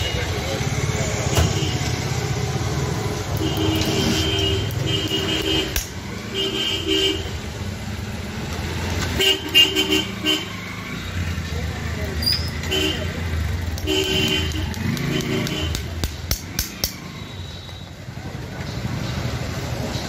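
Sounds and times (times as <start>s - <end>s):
traffic engine rumble: 0.0s - 20.0s.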